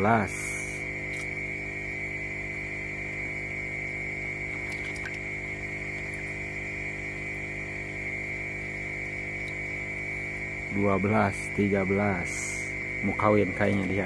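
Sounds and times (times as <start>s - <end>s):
constant high-pitched tone: 0.0s - 14.0s
steady low hum: 0.0s - 14.0s.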